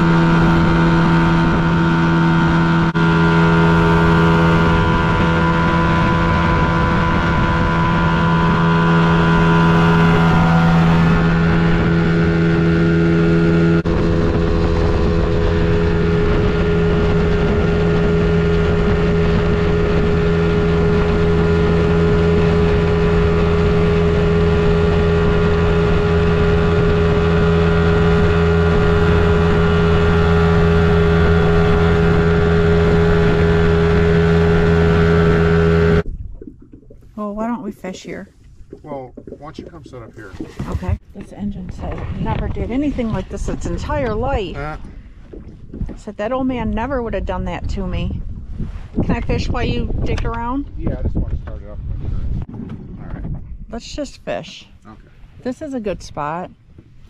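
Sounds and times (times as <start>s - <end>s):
rushing boat wake and spray: 0.0s - 36.1s, 37.0s - 57.0s
outboard motor running: 0.0s - 57.0s.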